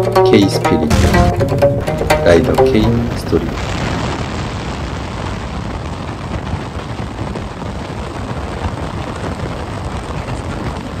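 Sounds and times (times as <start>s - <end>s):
rushing wind: 1.4s - 11.0s.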